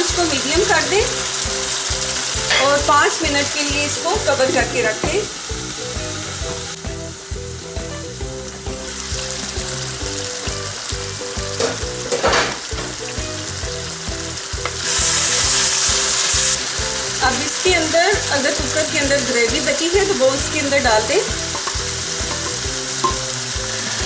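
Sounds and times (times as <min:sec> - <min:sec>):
background music: 0:00.0 - 0:24.0
meat sizzling in a wok: 0:00.0 - 0:24.0.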